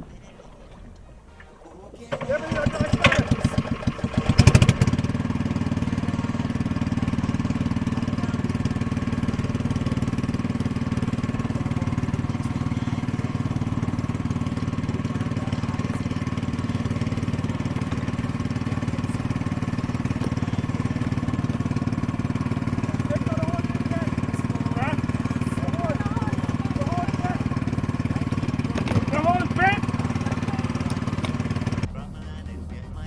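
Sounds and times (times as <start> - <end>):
boat engine running: 0.0 - 31.9.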